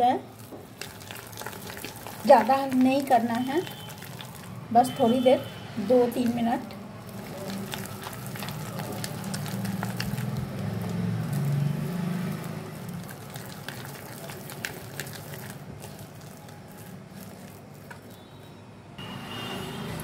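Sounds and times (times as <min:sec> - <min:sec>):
hand beating wet batter: 0:00.3 - 0:05.4, 0:06.0 - 0:18.2.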